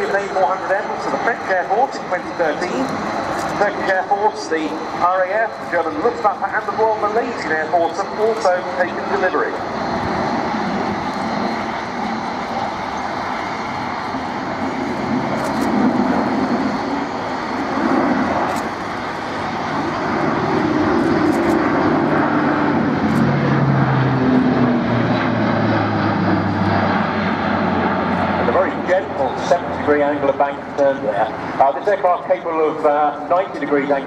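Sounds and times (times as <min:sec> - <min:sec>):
propeller aircraft drone: 0:00.0 - 0:34.0.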